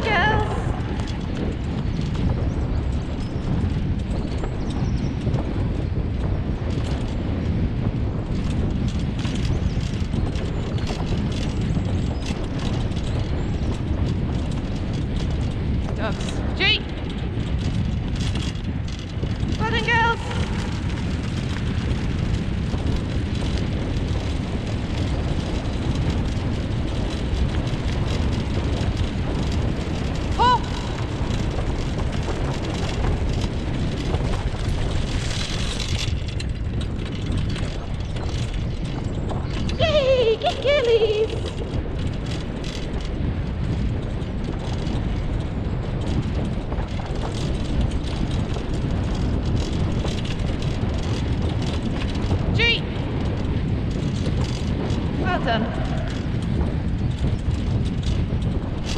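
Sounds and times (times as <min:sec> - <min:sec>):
wheels crunching on gravel: 0:00.0 - 0:58.9.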